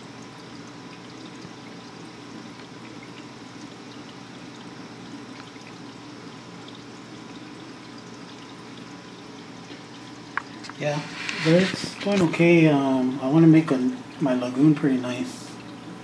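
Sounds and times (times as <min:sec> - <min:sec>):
aquarium water trickling and splashing: 0:00.0 - 0:16.0.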